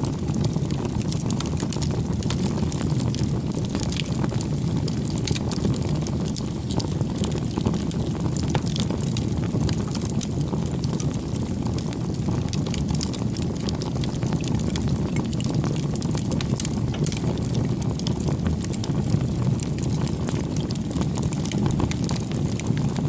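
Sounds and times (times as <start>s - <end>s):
burning wood crackling and popping: 0.0s - 23.0s
campfire flames rumbling: 0.0s - 23.0s.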